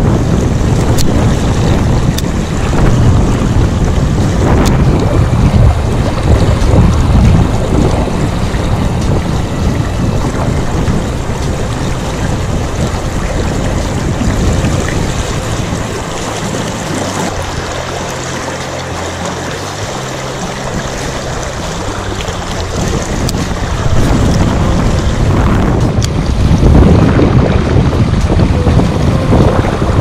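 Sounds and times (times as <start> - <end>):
low hum: 0.0 - 30.0
wind and water rushing: 0.0 - 30.0
wind buffeting microphone: 0.0 - 30.0.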